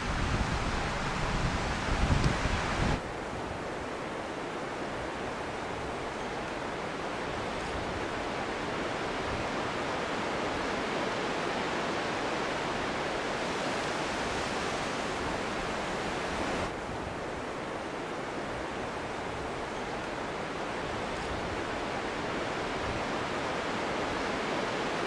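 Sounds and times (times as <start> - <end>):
mountain river rushing: 0.0 - 25.0.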